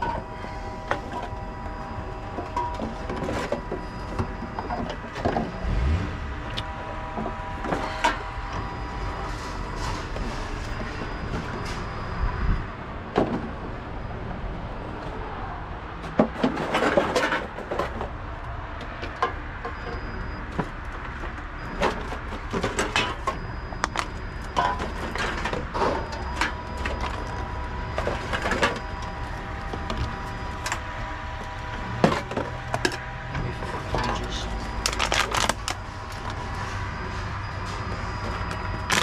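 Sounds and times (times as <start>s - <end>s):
vending machine hum: 0.0s - 39.0s.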